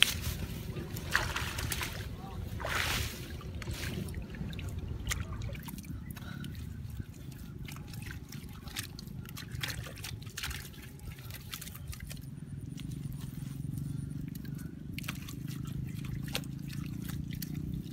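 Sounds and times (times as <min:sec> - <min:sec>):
hands squelching wet mud: 0:00.0 - 0:17.9
steady low rumble: 0:00.0 - 0:17.9
small water splashes and drips: 0:01.0 - 0:13.0, 0:14.3 - 0:17.9.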